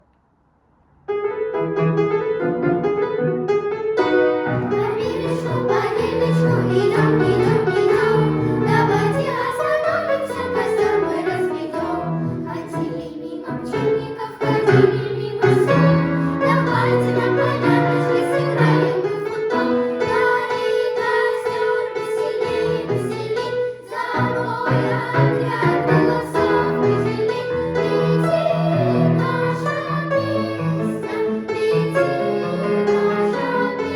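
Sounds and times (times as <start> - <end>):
child singing: 4.8 - 33.9.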